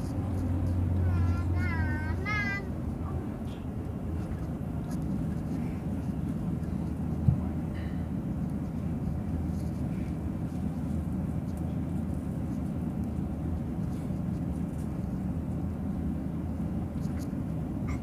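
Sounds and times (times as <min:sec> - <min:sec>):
jet cabin low rumble: 0:00.0 - 0:18.0.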